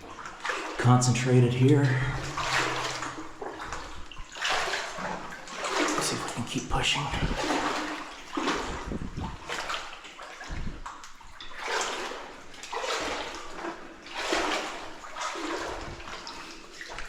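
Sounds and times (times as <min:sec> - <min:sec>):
person wading through water: 0:00.0 - 0:17.0.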